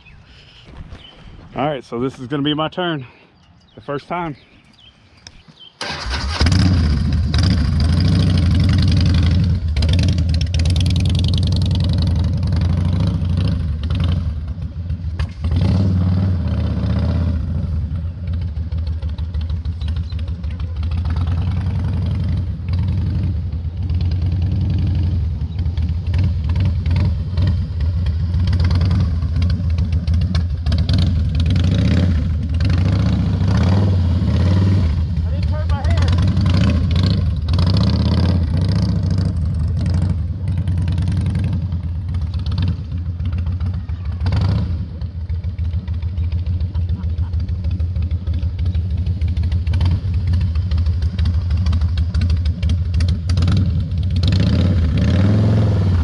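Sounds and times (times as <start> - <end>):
motorcycle engine running: 5.9 - 56.0.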